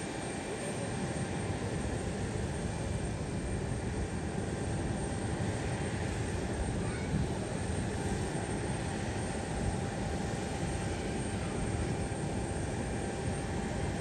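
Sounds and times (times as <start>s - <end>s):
airplane engine rushing: 0.0s - 14.0s.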